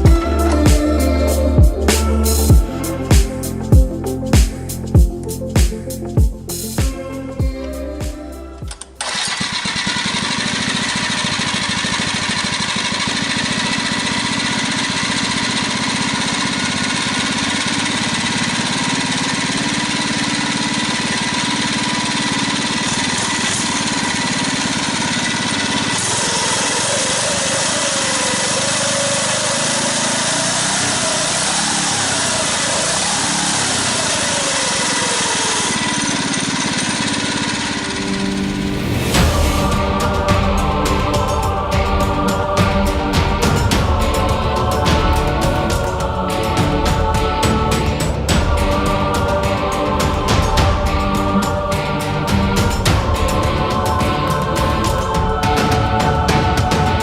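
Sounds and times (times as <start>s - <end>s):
small engine running: 8.6s - 57.0s.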